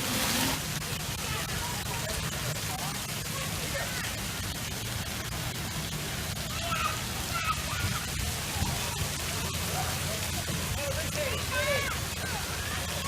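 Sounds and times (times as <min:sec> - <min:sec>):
running splashing water: 0:00.0 - 0:13.0
faint voices: 0:00.5 - 0:13.0.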